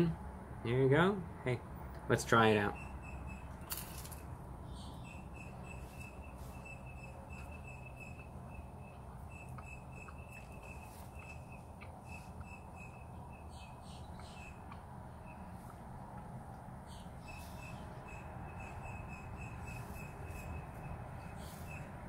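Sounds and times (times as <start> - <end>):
low background hum: 0.0 - 22.0
bird chirping: 2.6 - 22.0.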